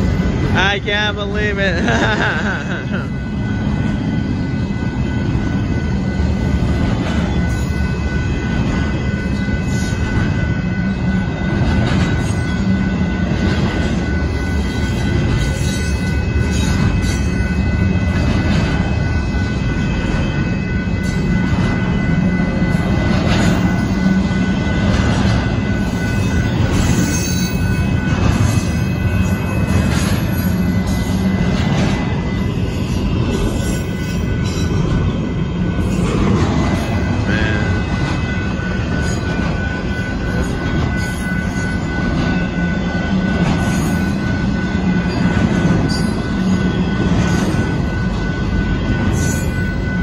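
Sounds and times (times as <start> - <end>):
freight train rumbling: 0.0 - 50.0
steady high-pitched tones: 0.0 - 50.0.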